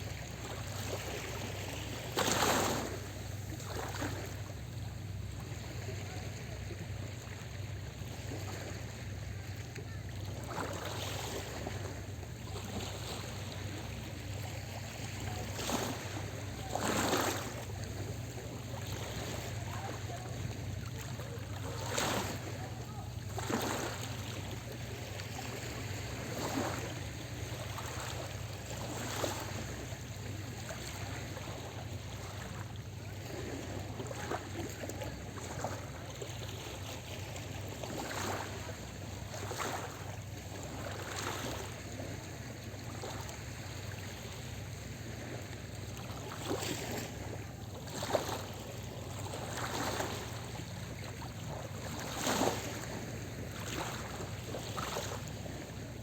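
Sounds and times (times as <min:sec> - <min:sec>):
waves lapping on shore: 0:00.0 - 0:56.0.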